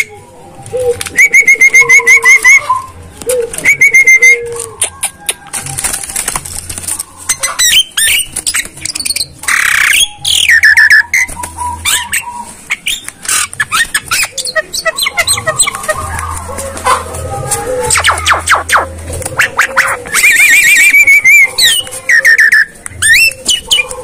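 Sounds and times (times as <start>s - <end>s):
myna clicks and whistled chirps: 1.1s - 3.0s, 3.6s - 5.6s, 7.3s - 16.5s, 17.9s - 24.0s.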